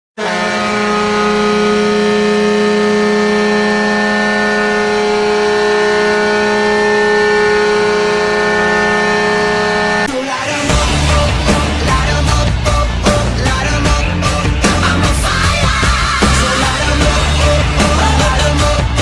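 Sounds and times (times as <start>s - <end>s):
goal horn blowing: 0.2s - 19.0s.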